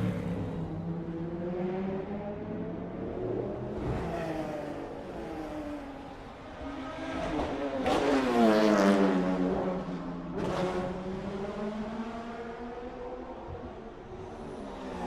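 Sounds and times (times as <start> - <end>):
race car engines passing by: 0.0 - 15.0.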